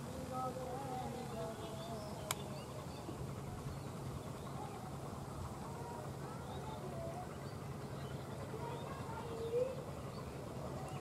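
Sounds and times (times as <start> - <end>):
diesel locomotive engine drone: 0.0 - 11.0.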